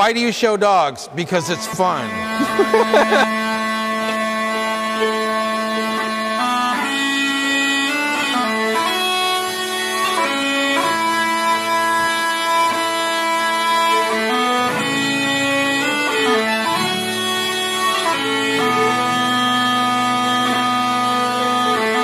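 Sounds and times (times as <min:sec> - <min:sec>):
bagpipe music: 0:01.5 - 0:22.0.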